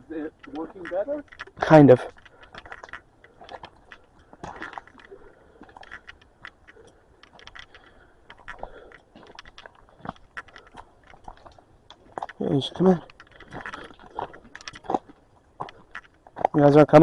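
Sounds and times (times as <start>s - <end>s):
close crunching and scraping: 0.0s - 17.0s
sharp clicks: 0.4s - 17.0s.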